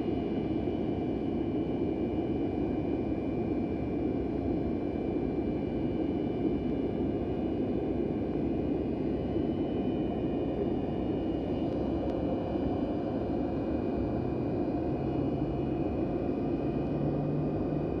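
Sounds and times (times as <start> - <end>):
jet engines rumbling with turbine whine: 0.0 - 18.0.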